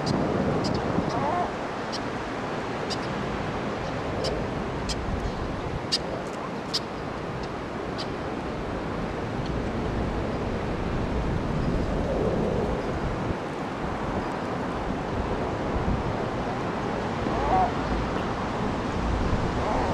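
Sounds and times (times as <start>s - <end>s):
wind blowing over microphone: 0.0s - 19.9s.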